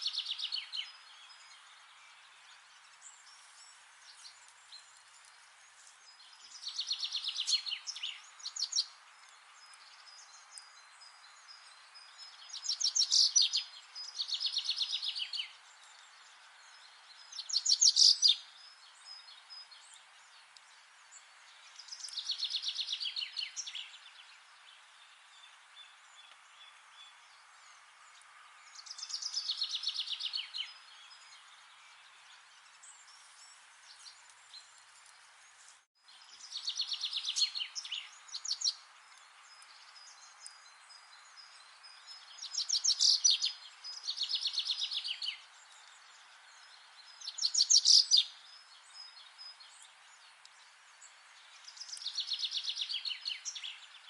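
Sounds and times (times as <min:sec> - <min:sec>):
faint bird chirps: 0:00.0 - 0:54.0
songbird singing: 0:00.0 - 0:54.0
steady background hiss: 0:00.0 - 0:54.0.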